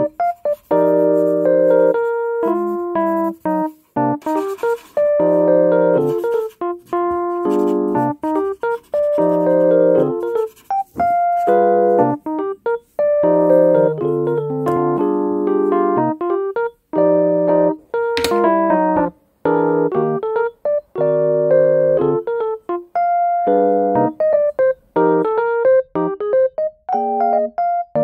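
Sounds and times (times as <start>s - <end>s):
electric piano music: 0.0s - 28.0s.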